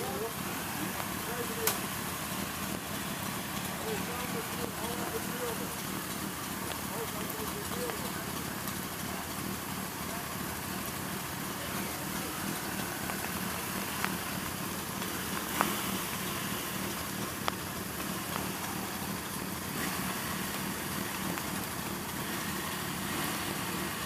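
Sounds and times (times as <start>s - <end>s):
motorcycle engines idling: 0.0s - 24.0s.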